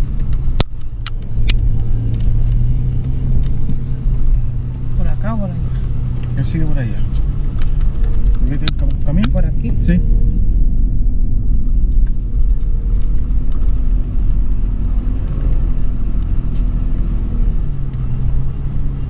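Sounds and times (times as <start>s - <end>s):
engine deep rumble from cabin: 0.0s - 19.0s.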